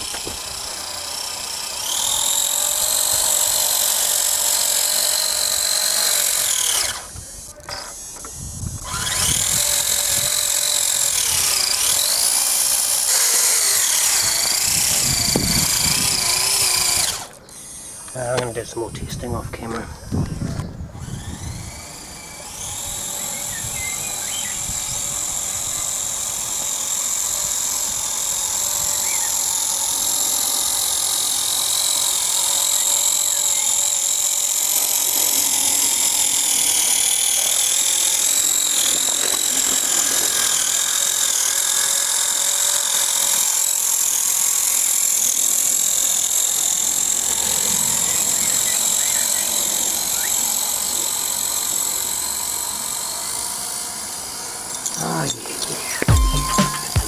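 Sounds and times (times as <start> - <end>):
electric motor whine: 0.0 - 57.0.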